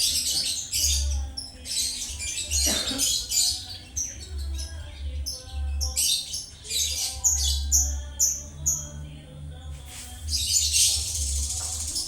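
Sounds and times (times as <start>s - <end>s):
caged birds chirping and squawking: 0.0s - 12.0s.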